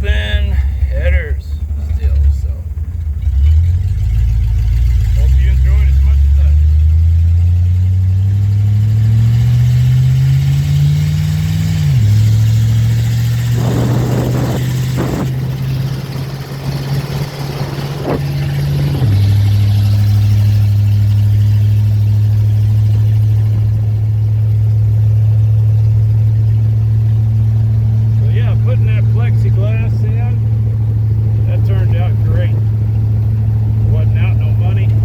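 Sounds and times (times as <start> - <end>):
pickup truck engine pulling: 0.0 - 35.0.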